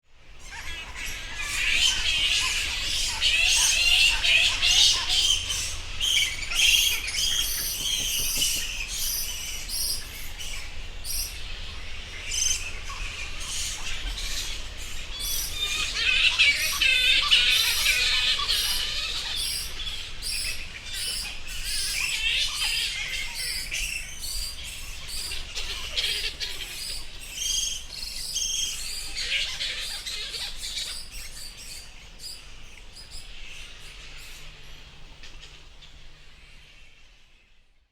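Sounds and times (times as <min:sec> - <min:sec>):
fruit bats chirping: 0:00.5 - 0:32.4.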